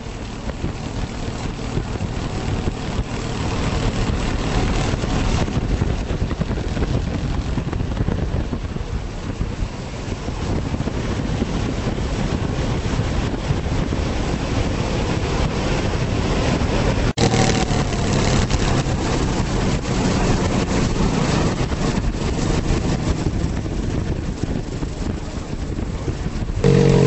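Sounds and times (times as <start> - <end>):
vehicle engine running: 0.0 - 27.0
wind buffeting microphone: 0.0 - 27.0.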